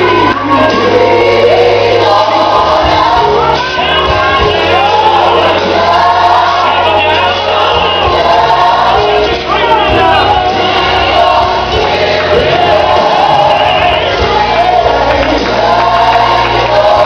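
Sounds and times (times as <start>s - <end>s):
choir singing gospel song: 0.0s - 17.0s
steady bass line: 0.0s - 17.0s.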